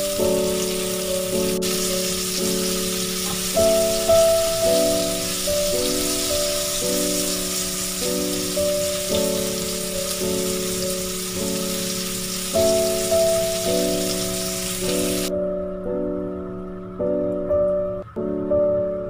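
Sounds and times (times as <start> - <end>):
fish sizzling in hot oil: 0.0 - 15.3
background piano music: 0.0 - 19.0.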